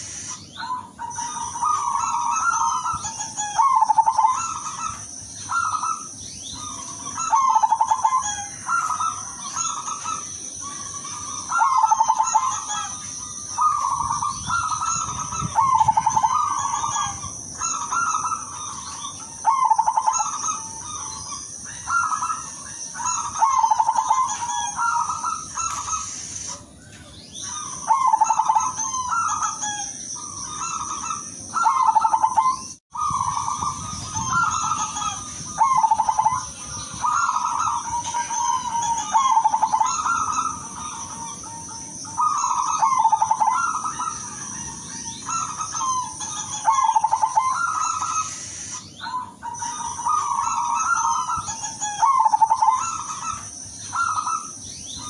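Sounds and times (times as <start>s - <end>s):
dove cooing: 0.0s - 55.0s
high-pitched whine: 0.0s - 55.0s.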